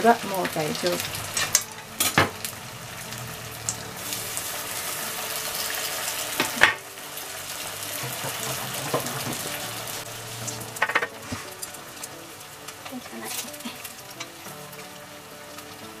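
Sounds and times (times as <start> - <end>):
deep-frying in oil sizzling: 0.0 - 16.0.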